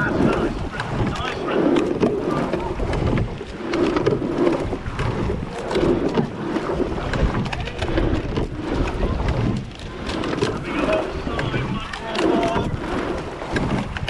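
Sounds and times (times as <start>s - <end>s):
oars splashing in water: 0.0s - 14.0s
wind buffeting microphone: 0.0s - 14.0s.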